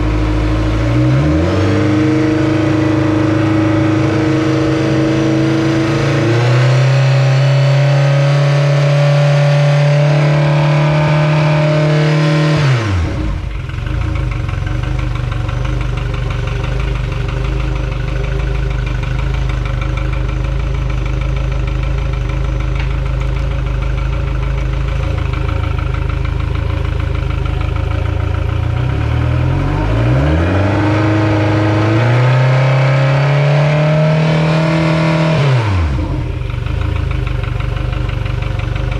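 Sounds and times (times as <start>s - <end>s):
outboard engine revving and idling: 0.0s - 38.9s.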